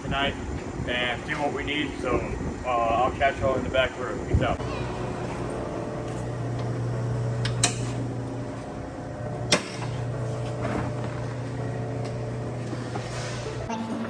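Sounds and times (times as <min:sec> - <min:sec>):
steady low hum: 0:00.3 - 0:14.0.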